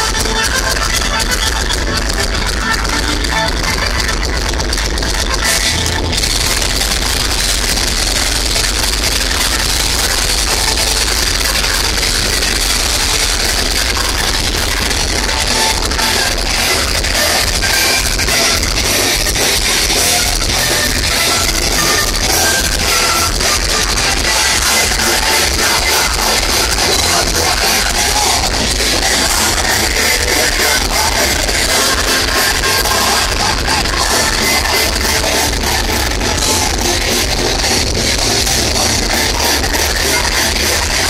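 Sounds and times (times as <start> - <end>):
live heavy metal band: 0.0 - 41.0
person singing: 5.3 - 41.0.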